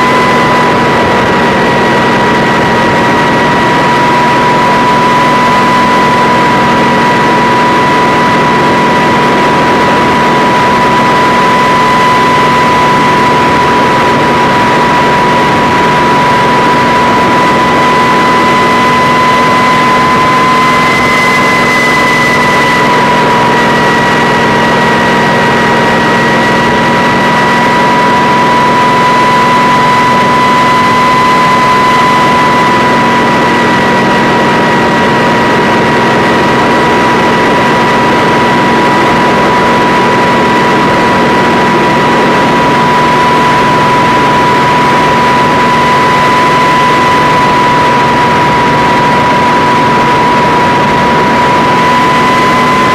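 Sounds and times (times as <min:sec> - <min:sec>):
constant high whine: 0:00.0 - 0:52.9
helicopter engines and rotors: 0:00.0 - 0:52.9.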